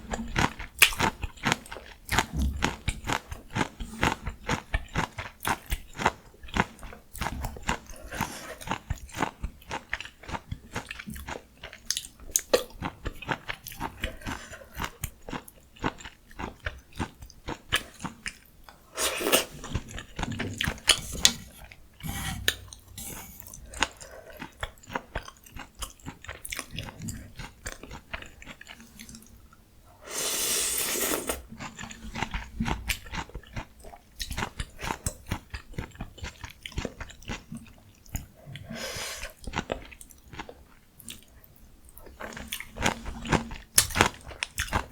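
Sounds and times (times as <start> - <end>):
chewing and crunching food: 0.0 - 29.6, 31.2 - 44.9.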